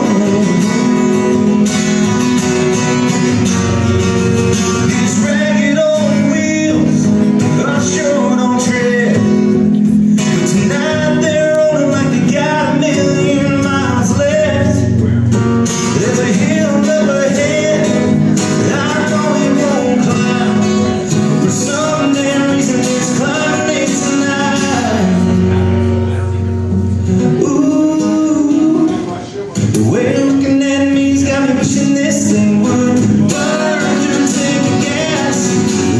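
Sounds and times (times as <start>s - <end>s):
man singing: 0.0s - 2.3s, 3.0s - 25.8s, 27.1s - 35.9s
strummed acoustic guitar: 0.0s - 35.9s.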